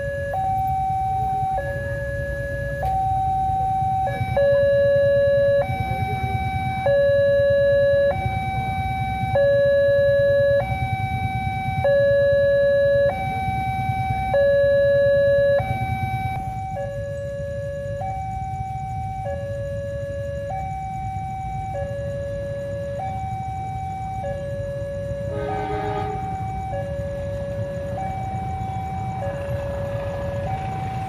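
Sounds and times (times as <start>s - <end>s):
level crossing two-tone alarm: 0.0s - 31.0s.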